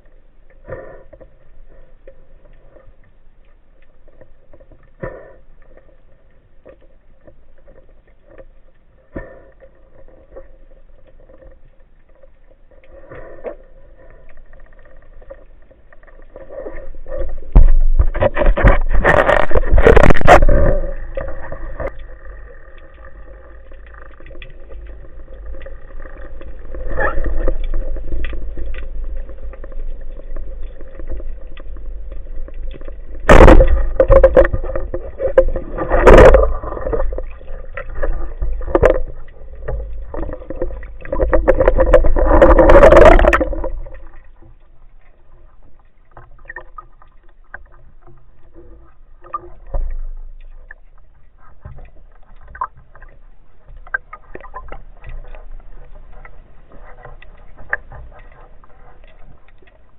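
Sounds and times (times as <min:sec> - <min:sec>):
clicking and crackling: 0:00.0 - 0:59.9
steady water hum: 0:00.0 - 0:59.9
water splashing: 0:01.6 - 0:59.9.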